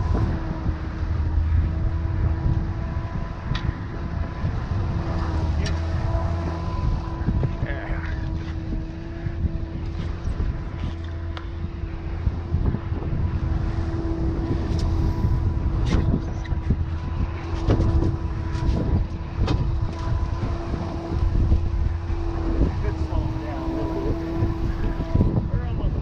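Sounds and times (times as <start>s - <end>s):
outboard motors running: 0.0s - 26.0s
rushing wake water: 0.0s - 26.0s
wind: 0.0s - 26.0s.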